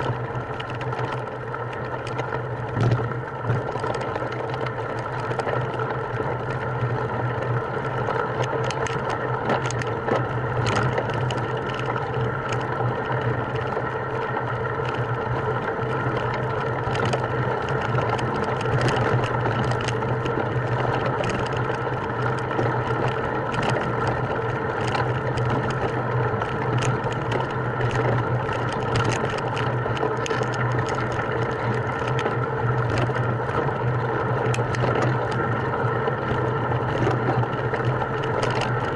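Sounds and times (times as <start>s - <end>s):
short clicks and rattles: 0.0s - 13.8s, 15.8s - 38.9s.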